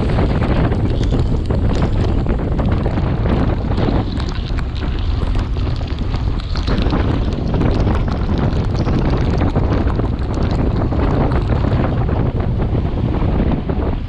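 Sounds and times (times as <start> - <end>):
crackles of rain and wheel spray: 0.0 - 14.0
wind buffeting microphone: 0.0 - 14.0.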